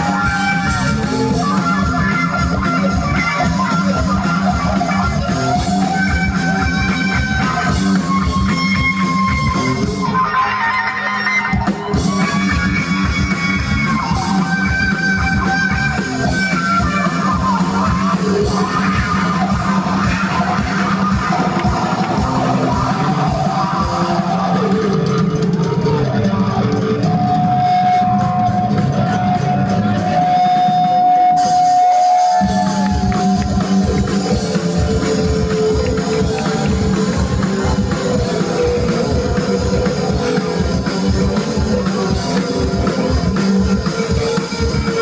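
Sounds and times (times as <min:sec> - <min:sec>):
live rock band playing: 0:00.0 - 0:45.0.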